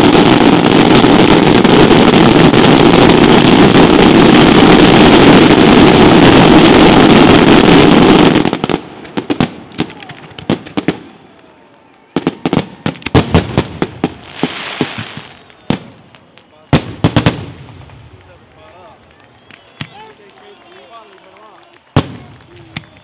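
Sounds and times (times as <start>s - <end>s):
fireworks barrage: 0.0s - 23.0s.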